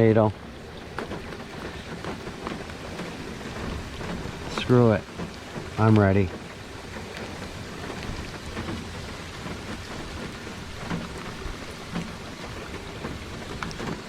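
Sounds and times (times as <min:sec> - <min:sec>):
raindrops ticking: 0:00.0 - 0:14.0
steady rain falling: 0:00.0 - 0:14.0.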